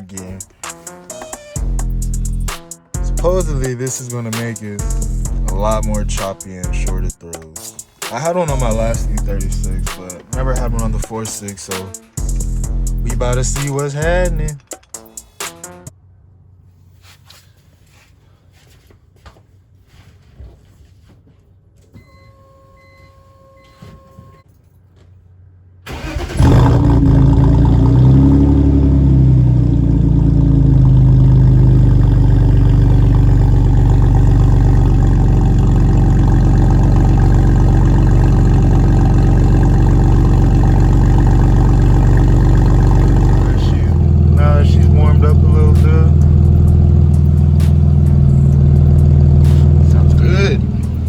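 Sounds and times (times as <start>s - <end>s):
car engine starting and idling: 0.0s - 16.6s, 25.0s - 51.0s.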